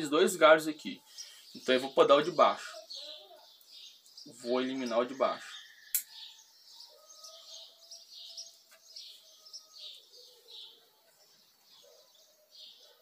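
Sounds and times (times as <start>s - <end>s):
faint small birds chirping: 0.0s - 13.0s.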